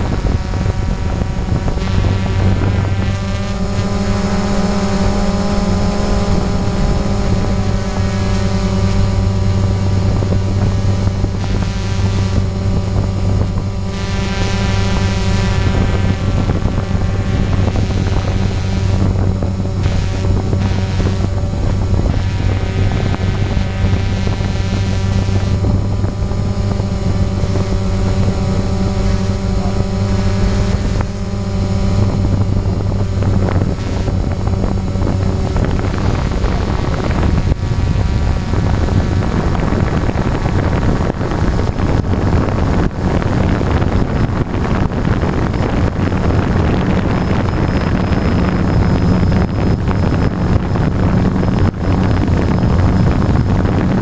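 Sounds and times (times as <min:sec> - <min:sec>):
drone propellers buzzing: 0:00.0 - 0:54.0
wind on microphone: 0:00.0 - 0:54.0.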